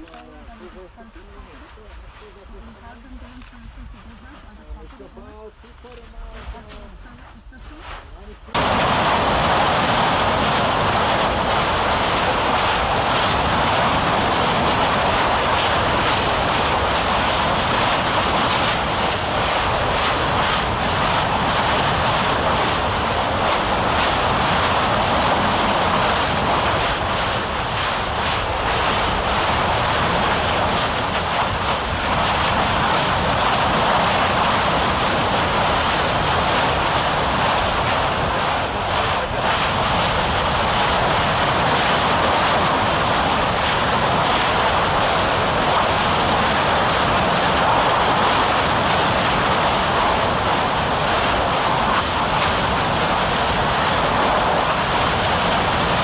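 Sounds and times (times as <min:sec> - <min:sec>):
loud rushing noise: 0:08.5 - 0:56.0.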